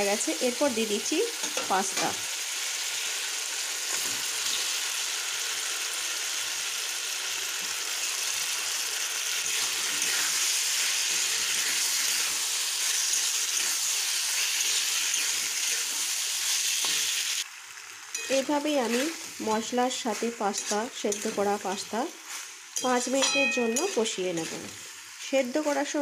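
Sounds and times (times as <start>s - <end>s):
pasta sizzling in oily sauce: 0.0s - 26.0s.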